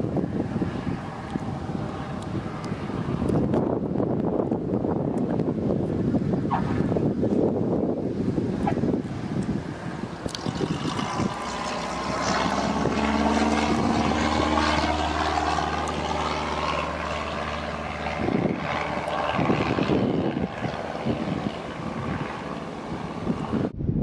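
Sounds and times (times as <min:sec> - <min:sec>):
airplane engine and propeller droning: 0:00.0 - 0:24.0
wind gusts on microphone: 0:00.0 - 0:24.0.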